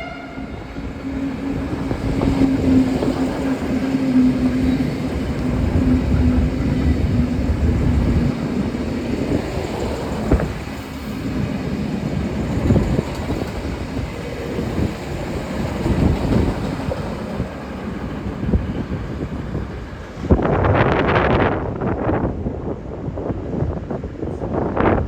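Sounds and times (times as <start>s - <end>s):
train rumble: 0.0s - 25.0s
wind buffeting microphone: 0.0s - 25.0s.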